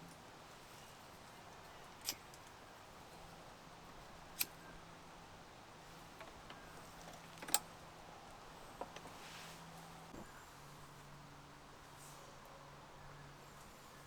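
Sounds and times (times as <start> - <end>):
quiet steady hiss: 0.0 - 14.0.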